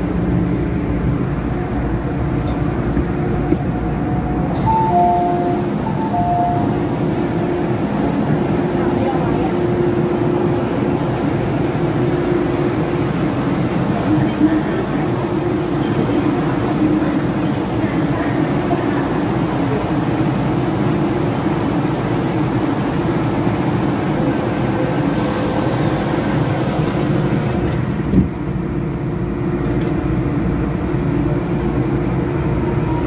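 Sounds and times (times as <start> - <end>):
train electrical hum: 0.0 - 33.0.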